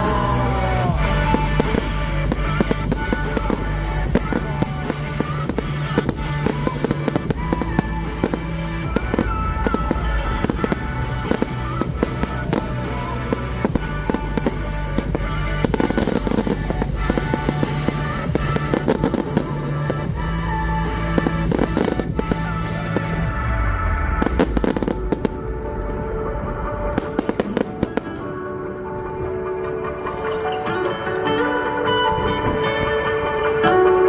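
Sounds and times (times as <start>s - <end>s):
fireworks bangs and crackles: 0.0s - 29.0s
background music: 0.0s - 34.0s.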